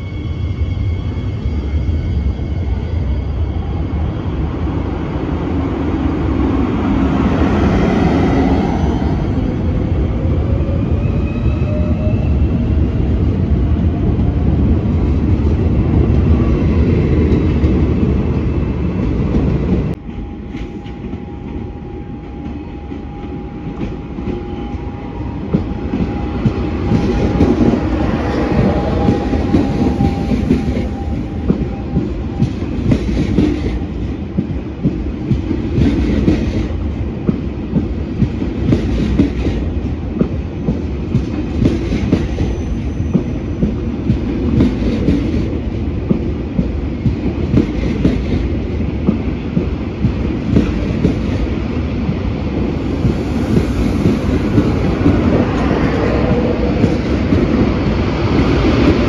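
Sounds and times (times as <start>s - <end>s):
steady train whine: 0.0s - 59.0s
train rumble with whine: 0.0s - 59.0s.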